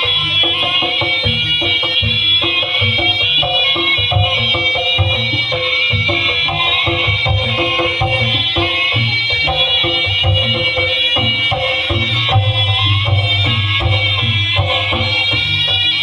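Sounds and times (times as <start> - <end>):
drum beats: 0.0 - 16.0.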